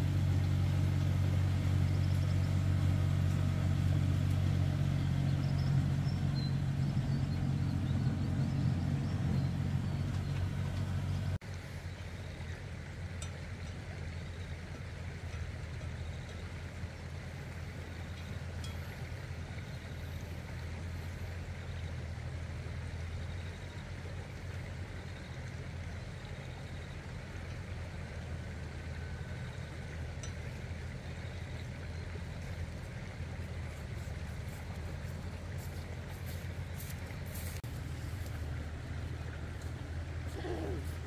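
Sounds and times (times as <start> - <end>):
low mechanical drone: 0.0 - 41.0.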